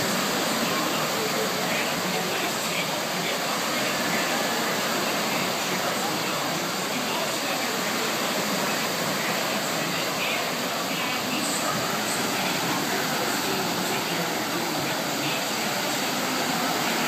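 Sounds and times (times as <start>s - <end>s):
voices of swimmers: 0.0s - 17.0s
waves breaking in pool: 0.0s - 17.0s.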